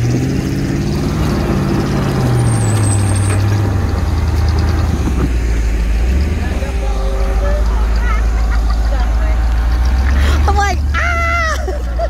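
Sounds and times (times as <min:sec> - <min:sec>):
buggy engine running at low revs: 0:00.0 - 0:12.0.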